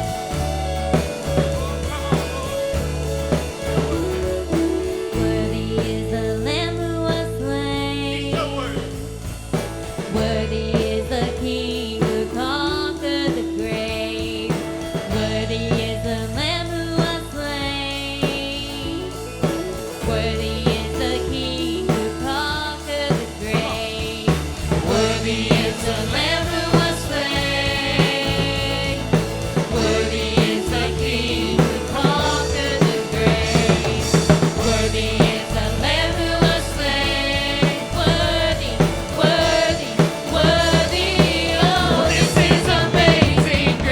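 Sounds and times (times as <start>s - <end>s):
person singing: 0.0s - 43.9s
worship song with band: 0.0s - 43.9s.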